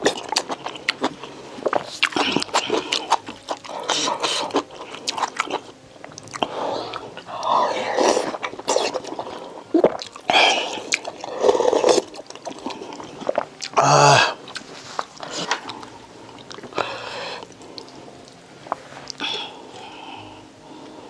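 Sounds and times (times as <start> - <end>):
chewing and eating: 0.0 - 21.0.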